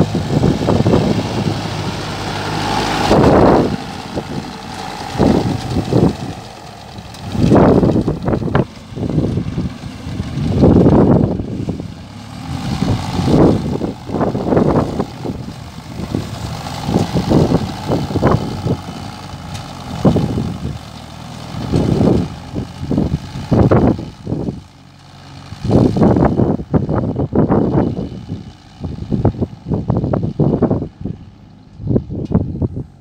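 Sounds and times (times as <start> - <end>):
tractor engine running: 0.0 - 33.0
wind buffeting microphone: 0.0 - 33.0.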